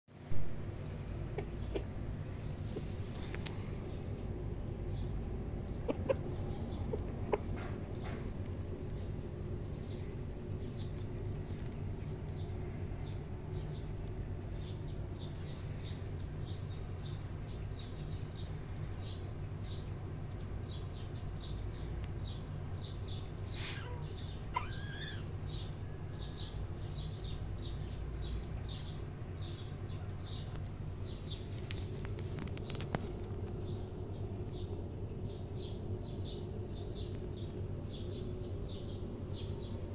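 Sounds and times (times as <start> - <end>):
low background rumble: 0.1 - 39.9
small birds chirping: 0.1 - 39.9.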